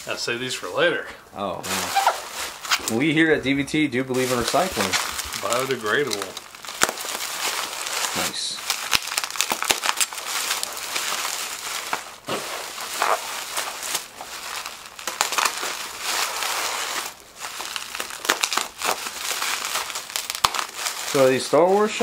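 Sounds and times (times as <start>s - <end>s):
bubble wrap crinkling and crackling: 0.0s - 22.0s.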